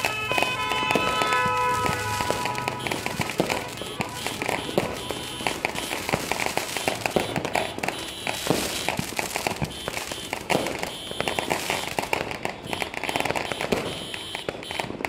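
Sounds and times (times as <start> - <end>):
firecrackers popping and banging: 0.0 - 15.0.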